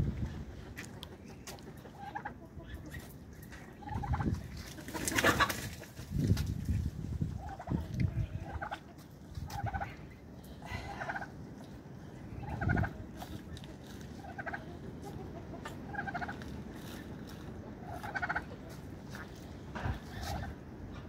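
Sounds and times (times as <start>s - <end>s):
poultry calling: 1.1s - 6.0s, 7.3s - 21.0s.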